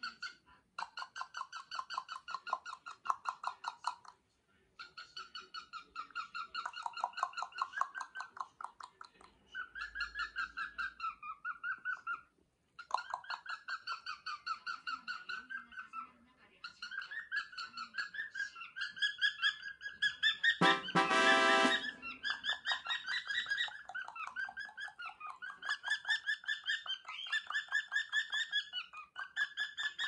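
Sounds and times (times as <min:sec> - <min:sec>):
cockatiel chattering: 0:00.0 - 0:04.2, 0:04.8 - 0:30.0.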